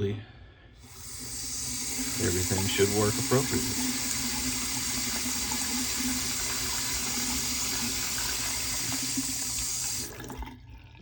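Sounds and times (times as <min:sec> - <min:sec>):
faucet water running into sink: 0:00.8 - 0:11.0.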